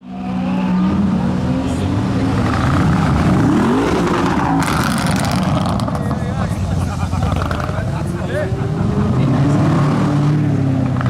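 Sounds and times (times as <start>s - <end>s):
car engine revving loudly: 0.4s - 6.5s, 7.2s - 11.0s.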